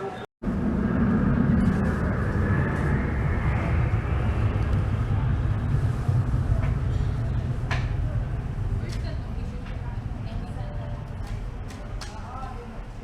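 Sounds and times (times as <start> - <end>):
train rumbling: 0.4 - 13.0.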